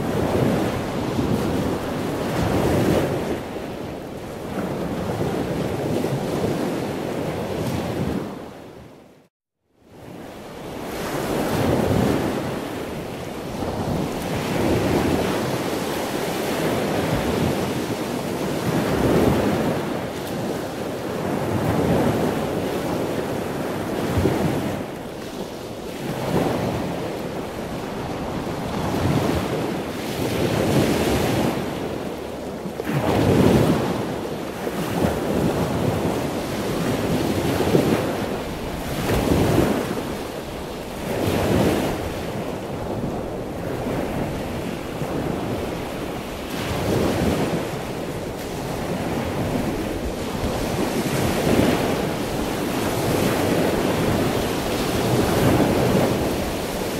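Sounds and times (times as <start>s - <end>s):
ocean waves breaking: 0.0s - 8.8s, 10.0s - 56.9s.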